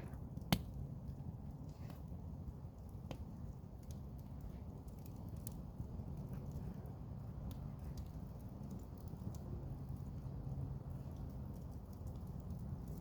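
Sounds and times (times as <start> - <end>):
low fire rumble: 0.0 - 13.0
wood crackling in campfire: 0.0 - 13.0.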